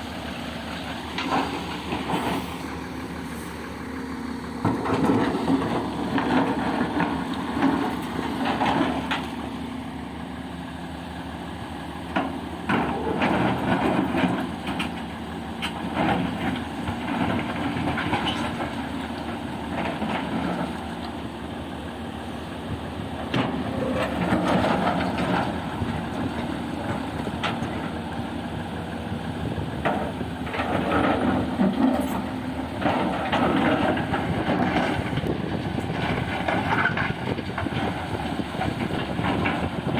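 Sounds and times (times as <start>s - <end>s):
diesel engine hum: 0.0s - 39.9s.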